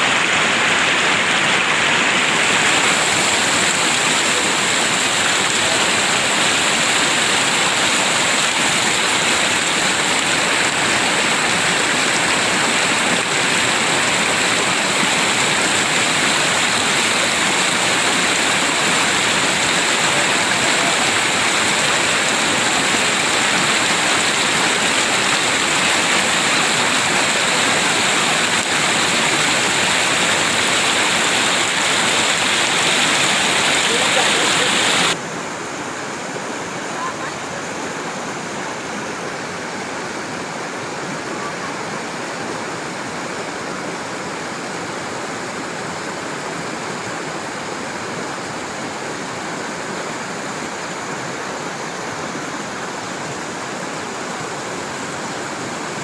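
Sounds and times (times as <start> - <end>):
river water rushing and splashing: 0.0 - 56.0.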